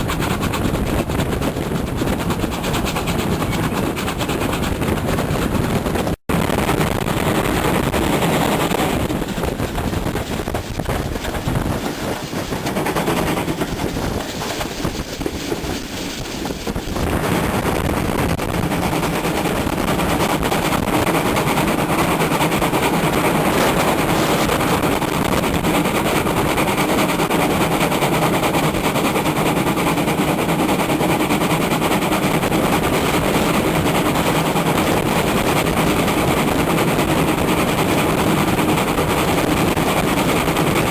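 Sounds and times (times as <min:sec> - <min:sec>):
steam locomotive exhaust beats: 0:00.0 - 0:40.9
wind noise on microphone: 0:00.0 - 0:40.9.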